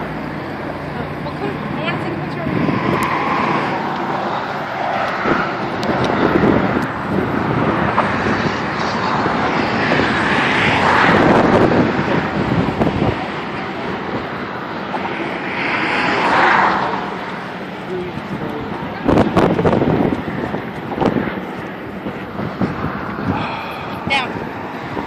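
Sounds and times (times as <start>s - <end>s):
highway traffic passing at speed: 0.0s - 25.0s.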